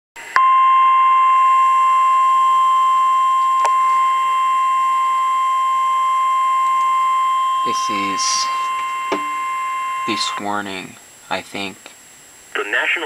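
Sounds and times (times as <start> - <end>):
steady high-pitched alarm tone: 0.2 - 11.8.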